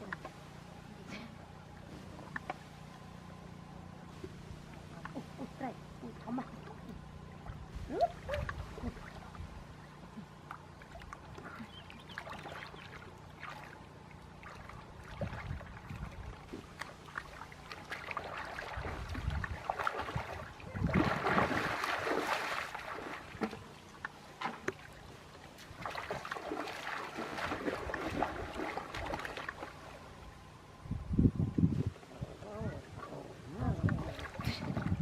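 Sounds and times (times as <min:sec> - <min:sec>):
water sloshing and splashing: 0:04.1 - 0:30.5, 0:32.8 - 0:35.0.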